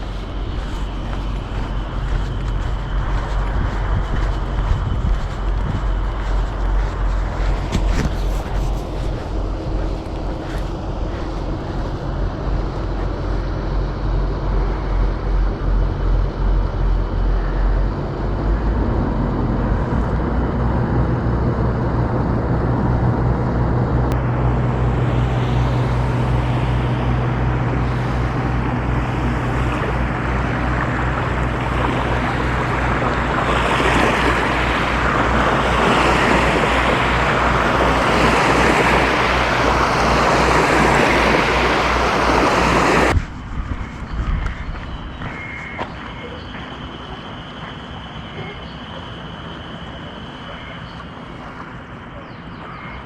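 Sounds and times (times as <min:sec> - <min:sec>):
wind rushing over microphone: 0:00.0 - 0:45.8.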